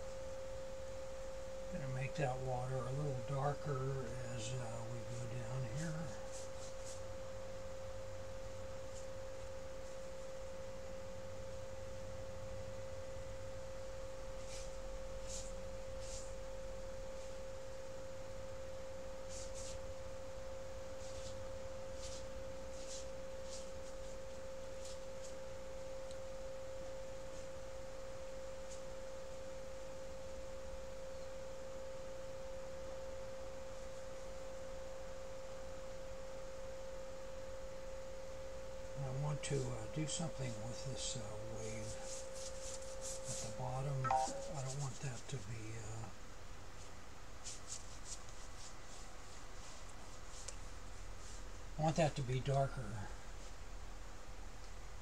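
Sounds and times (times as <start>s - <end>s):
steady electrical whine: 0.0s - 47.4s.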